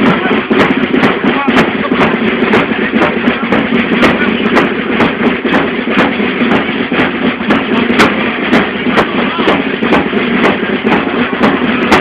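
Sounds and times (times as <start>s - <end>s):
crowd noise: 0.0s - 12.0s
parade music with beat: 0.0s - 12.0s.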